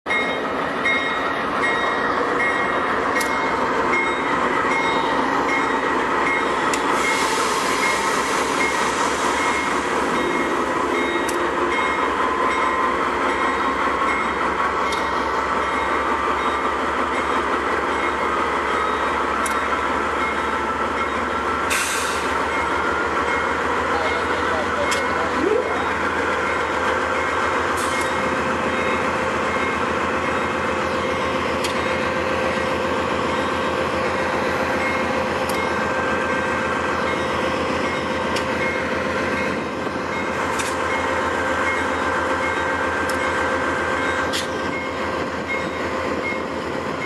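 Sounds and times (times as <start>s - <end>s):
locomotive engine droning: 0.1s - 47.0s
wheels rumbling on rail: 0.1s - 47.0s.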